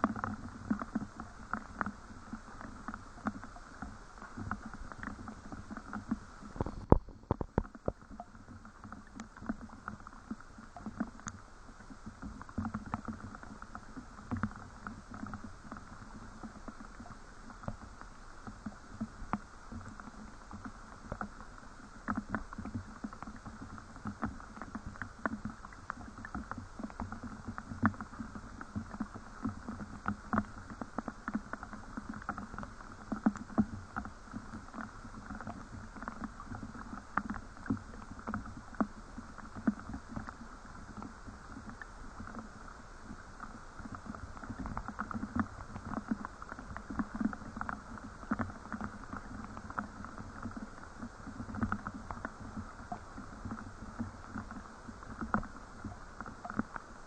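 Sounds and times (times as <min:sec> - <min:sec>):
faint rain hiss: 0:00.0 - 0:57.0
rain drops pattering: 0:00.0 - 0:57.0.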